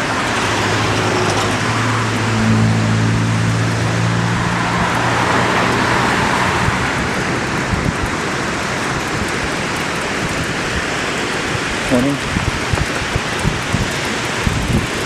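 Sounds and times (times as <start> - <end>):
road traffic rushing: 0.0 - 15.0
vehicle engine hum passing: 0.0 - 15.0
wind: 0.0 - 15.0.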